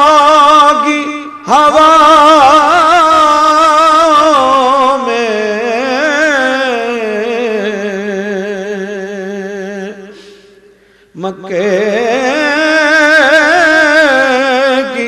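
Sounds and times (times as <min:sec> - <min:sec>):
man singing into a microphone: 0:00.0 - 0:10.2, 0:11.1 - 0:15.0.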